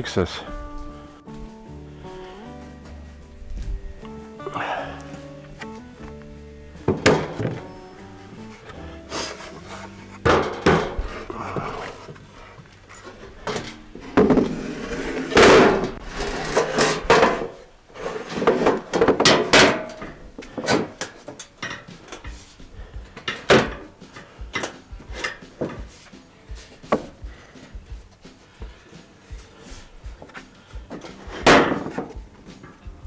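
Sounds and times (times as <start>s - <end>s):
wood knocks thuds and scrapes: 0.5s - 33.0s.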